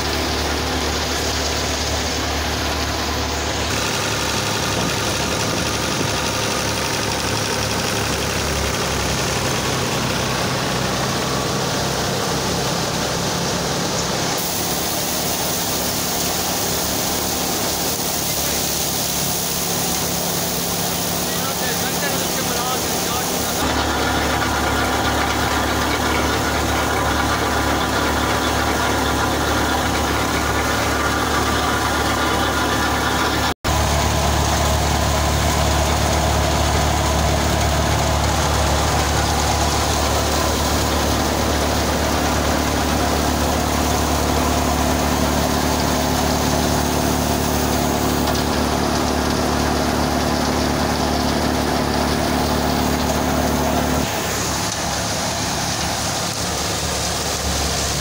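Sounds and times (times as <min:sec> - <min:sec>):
thresher engine hum: 0:00.0 - 0:58.0
threshing drum whirring: 0:00.0 - 0:58.0.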